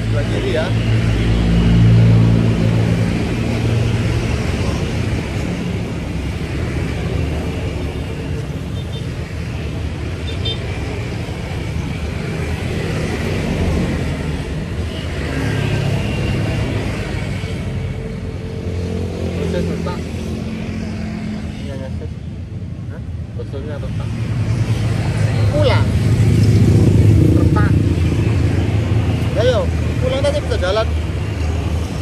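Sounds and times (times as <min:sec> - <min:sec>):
road traffic noise: 0:00.0 - 0:32.0.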